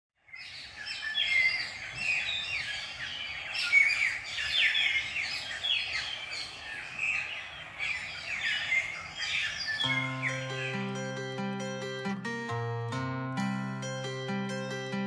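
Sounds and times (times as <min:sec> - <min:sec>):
birds singing: 0:00.2 - 0:15.0
faint outdoor background: 0:00.2 - 0:15.0.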